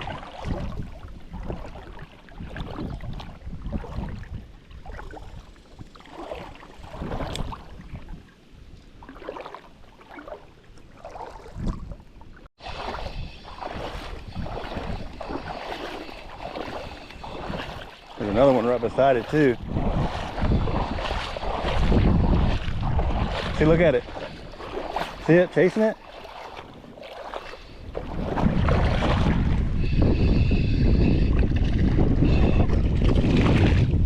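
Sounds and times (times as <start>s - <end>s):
wind on microphone: 0.0s - 8.8s, 11.1s - 34.0s
water sloshing and splashing: 0.0s - 34.0s.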